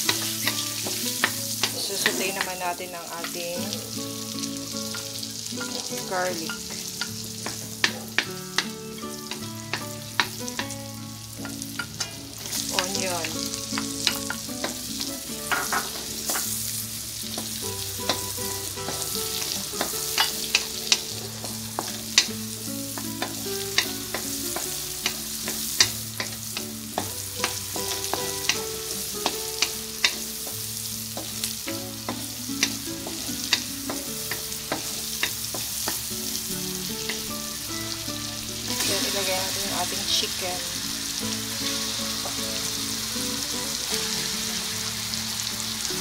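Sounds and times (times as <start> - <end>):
garlic and onion sizzling: 0.0 - 46.0.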